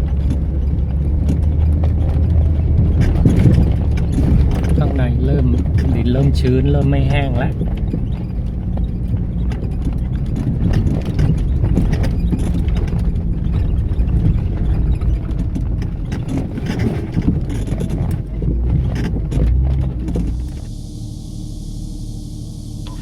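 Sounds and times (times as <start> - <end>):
vehicle knocking and rattling: 0.0 - 21.2
vehicle engine under load: 0.0 - 23.0.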